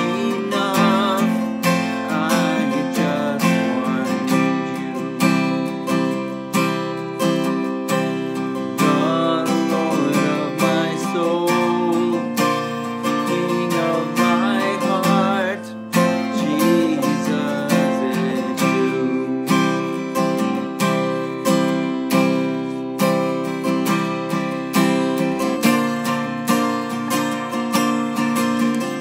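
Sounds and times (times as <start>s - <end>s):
man singing: 0.0s - 23.3s, 27.8s - 29.0s
acoustic guitar strumming: 0.0s - 29.0s.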